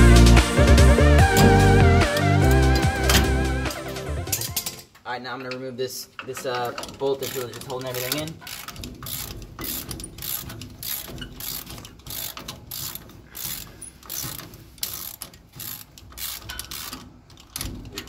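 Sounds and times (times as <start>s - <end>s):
hand ratchet clicking: 1.2s - 3.5s, 4.3s - 18.0s.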